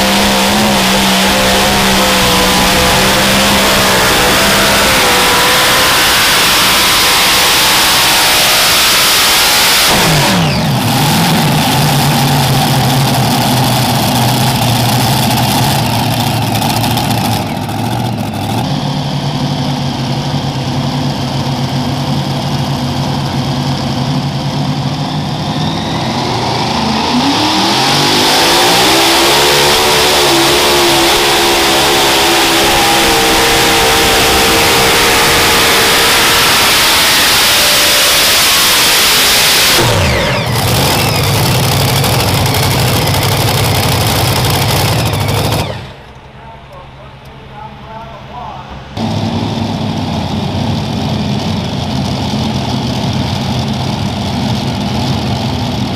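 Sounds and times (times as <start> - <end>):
pulling tractor engines revving: 0.0 - 48.0, 48.7 - 55.9.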